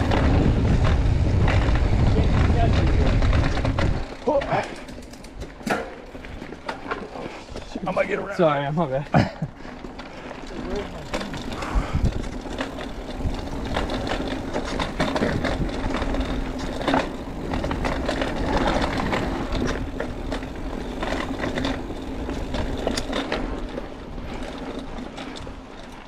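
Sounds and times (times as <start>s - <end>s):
bike frame rattling: 0.0s - 26.0s
bike tyres crunching on dirt: 0.0s - 26.0s
low rumble of wind: 0.0s - 26.0s.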